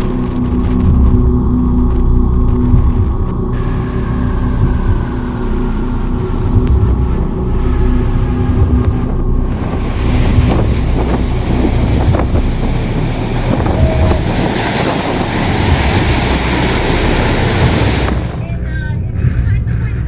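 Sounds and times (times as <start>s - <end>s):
low rumble: 0.0s - 20.0s
wind buffeting microphone: 0.0s - 20.0s
surf rushing: 1.8s - 19.4s.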